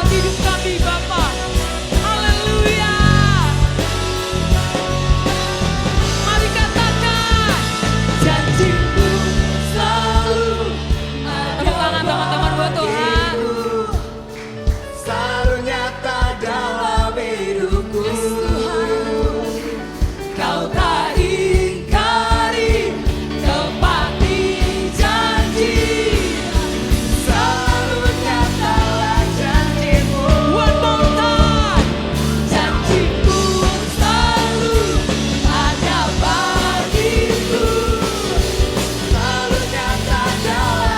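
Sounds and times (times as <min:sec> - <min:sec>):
person singing: 0:00.0 - 0:04.0, 0:05.8 - 0:14.3, 0:15.2 - 0:40.9
bass: 0:00.0 - 0:40.9
drum beat: 0:00.0 - 0:40.9
worship band playing: 0:00.0 - 0:40.9.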